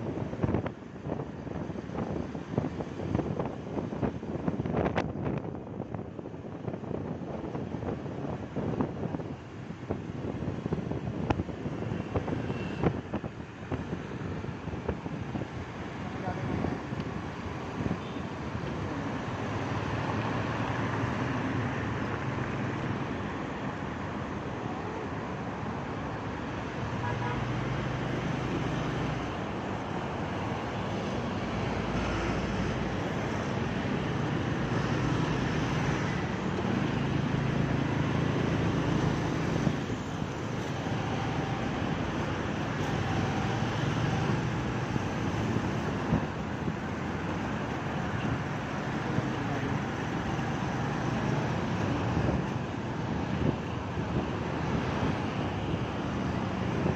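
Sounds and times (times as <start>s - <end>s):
road and traffic noise: 0.0s - 56.9s.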